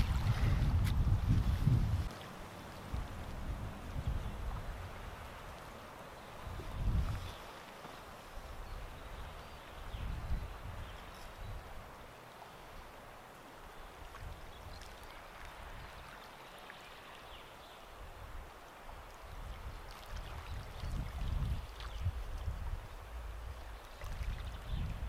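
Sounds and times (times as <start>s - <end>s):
waves lapping at lake edge: 0.0s - 9.9s, 10.5s - 24.9s.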